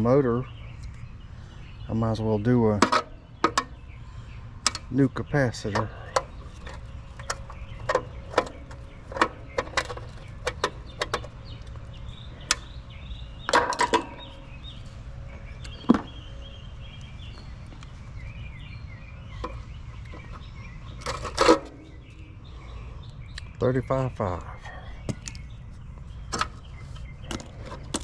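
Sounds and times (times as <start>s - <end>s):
birds chirping faintly: 0.0s - 28.0s.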